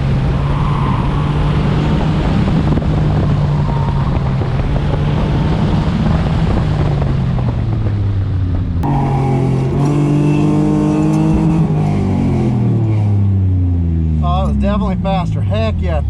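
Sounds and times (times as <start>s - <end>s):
car engine running hard: 0.0s - 16.0s
wind and road noise: 0.0s - 16.0s.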